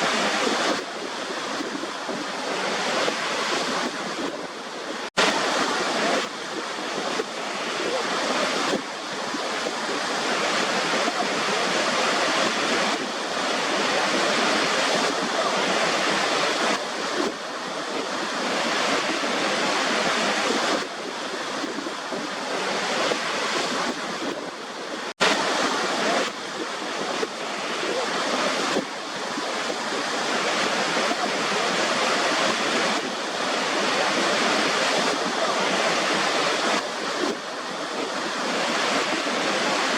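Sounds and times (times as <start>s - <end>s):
rushing surf-like noise: 0.0s - 39.9s.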